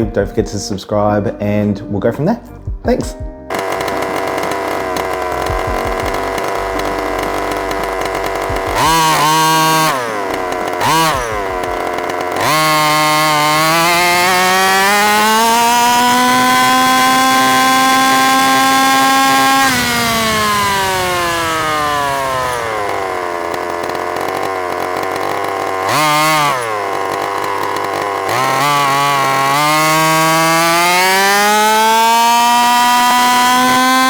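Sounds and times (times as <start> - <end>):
rc car two-stroke engine revving: 3.5 - 34.0.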